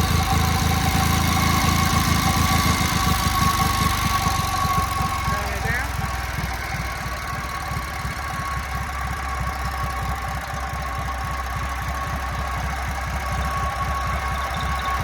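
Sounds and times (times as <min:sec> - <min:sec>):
generator hum: 0:00.0 - 0:15.0
stationary engine ticking over: 0:00.0 - 0:15.0.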